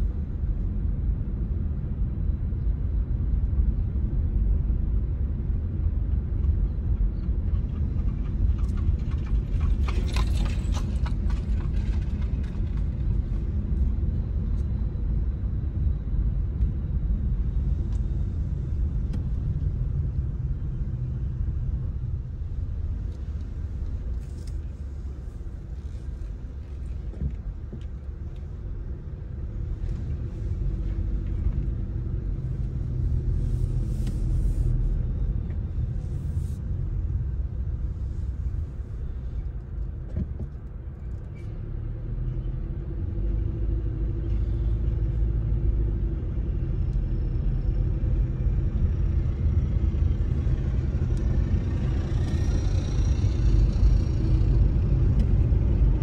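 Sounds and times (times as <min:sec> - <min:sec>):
car driving on paved road: 0:00.0 - 0:56.0.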